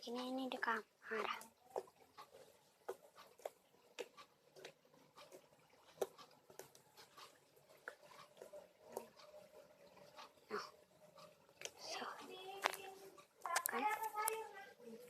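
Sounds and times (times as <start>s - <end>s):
slime squishing: 0.0s - 14.3s.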